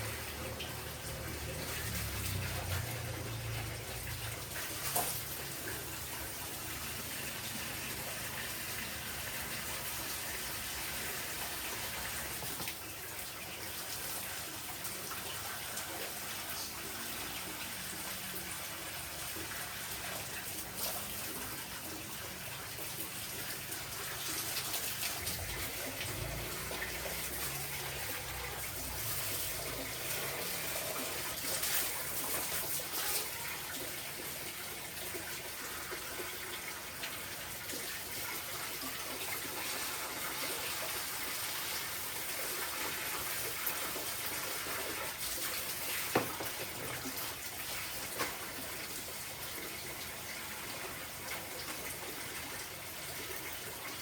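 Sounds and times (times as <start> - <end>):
water running from tap: 0.0 - 54.0.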